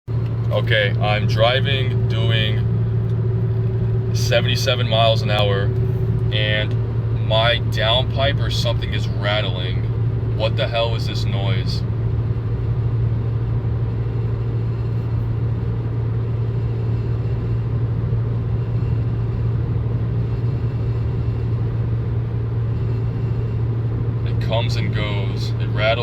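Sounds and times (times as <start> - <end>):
exhaust rattle: 0.1 - 26.0
low car cabin drone: 0.1 - 26.0.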